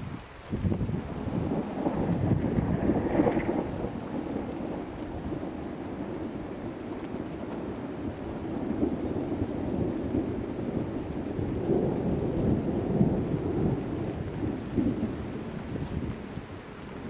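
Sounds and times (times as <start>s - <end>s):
rolling thunder: 0.6s - 17.0s.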